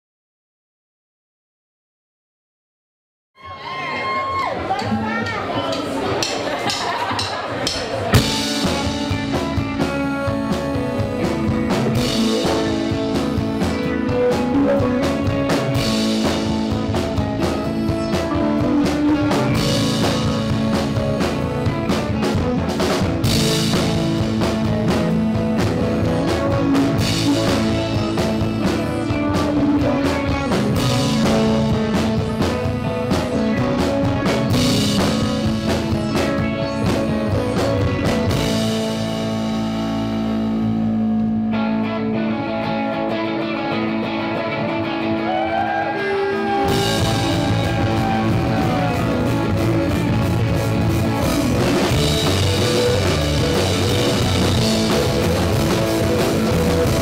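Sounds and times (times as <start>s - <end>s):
live rock band: 3.4s - 57.0s.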